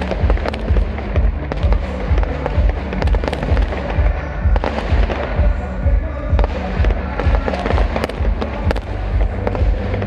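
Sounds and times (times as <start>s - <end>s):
fireworks crackling and popping: 0.0s - 5.7s, 6.4s - 10.0s
music with heavy bass beat: 0.0s - 10.0s.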